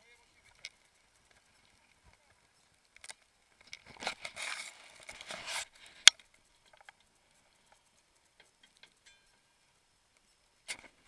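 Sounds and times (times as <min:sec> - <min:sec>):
faint ticks: 0:00.0 - 0:11.0
rustling and scraping: 0:00.0 - 0:11.0.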